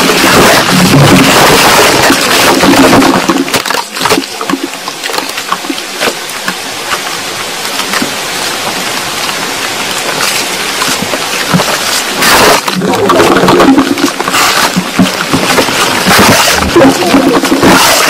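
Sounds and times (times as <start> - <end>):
soil trickling: 0.0 - 18.0
water running: 0.0 - 18.0.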